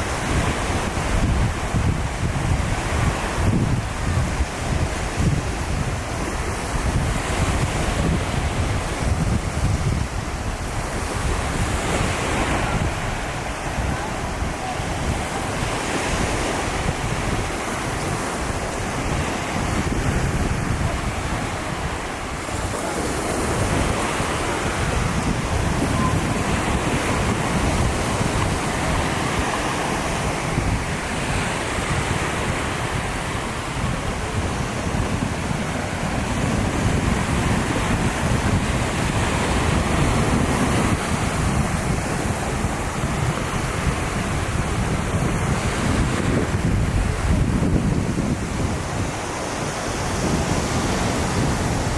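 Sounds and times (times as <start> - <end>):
ocean surf washing onto beach: 0.0 - 51.9
wind buffeting microphone: 0.0 - 51.9.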